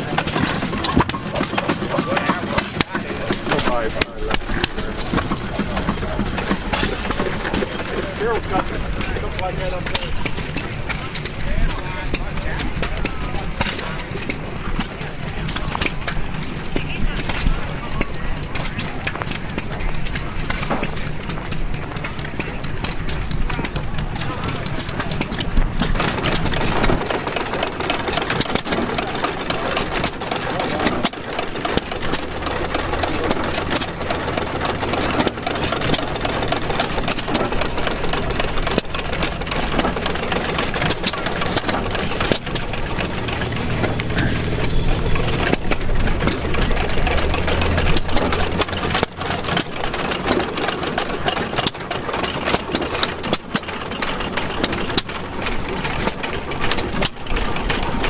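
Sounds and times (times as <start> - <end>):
gas engine clattering: 0.0 - 58.0.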